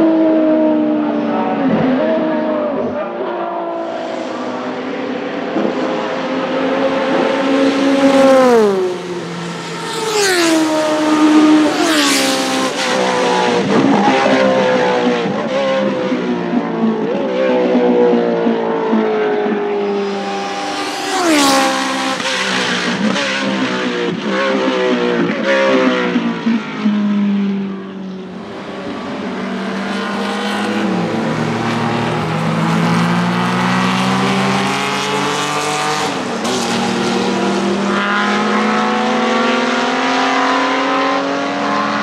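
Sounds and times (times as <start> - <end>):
race car engines running hard: 0.0 - 42.0.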